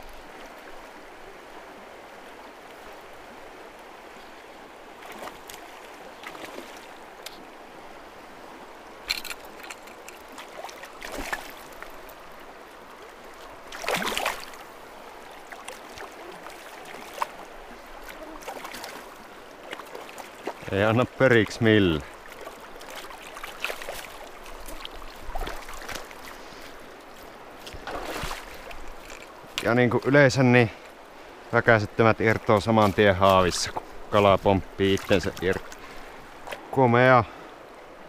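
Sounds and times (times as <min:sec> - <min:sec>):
water splashes: 0:00.0 - 0:37.4
river water flowing: 0:00.0 - 0:38.0.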